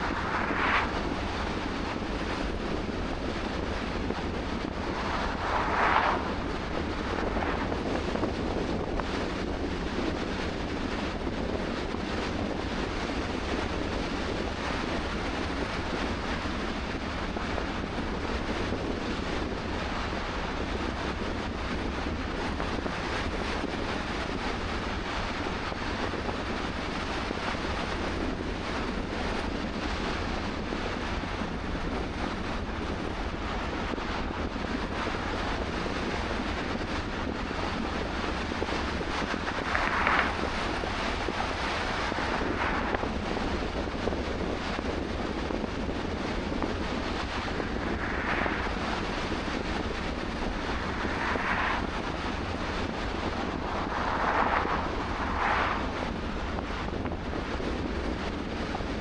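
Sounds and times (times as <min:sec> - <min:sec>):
car road and wind noise: 0:00.0 - 0:59.0
wind rumble on microphone: 0:00.0 - 0:59.0.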